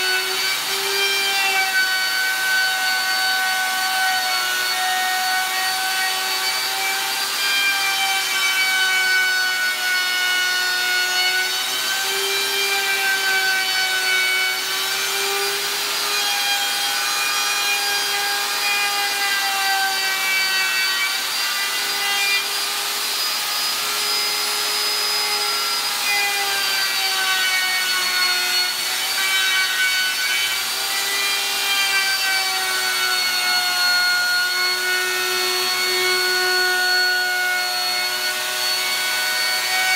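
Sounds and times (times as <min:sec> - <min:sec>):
router cutting plastic: 0:00.0 - 0:39.9.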